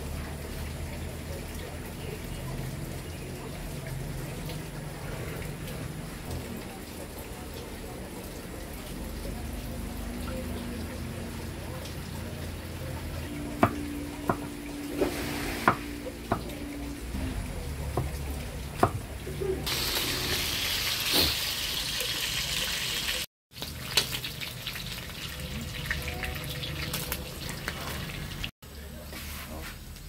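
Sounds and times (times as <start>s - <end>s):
chicken frying in a wok: 0.0s - 13.2s, 18.2s - 30.0s.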